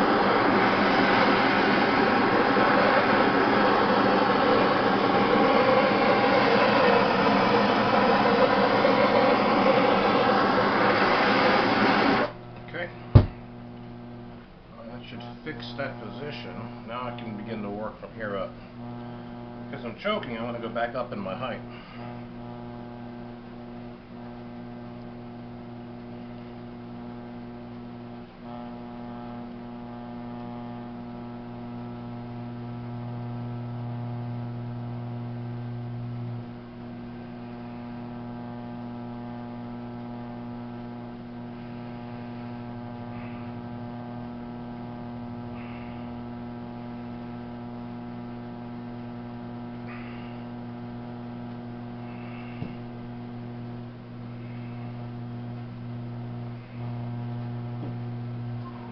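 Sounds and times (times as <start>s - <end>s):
potter's wheel motor humming: 0.0s - 58.9s.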